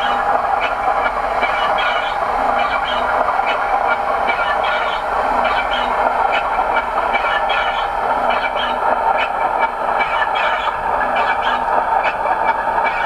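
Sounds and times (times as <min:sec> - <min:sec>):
model train whirring: 0:00.0 - 0:13.0
wheels clicking over rail joints: 0:00.0 - 0:13.0.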